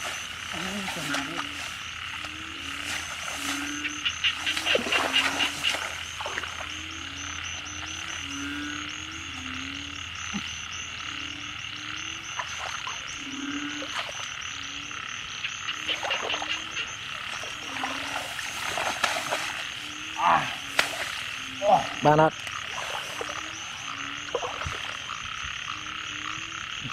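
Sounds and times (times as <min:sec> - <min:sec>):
frogs croaking: 0:00.0 - 0:26.9.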